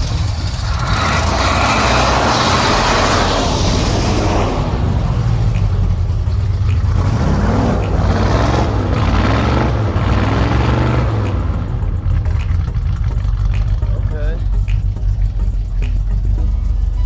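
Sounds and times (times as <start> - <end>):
pickup truck engine rumbling: 0.0 - 17.0.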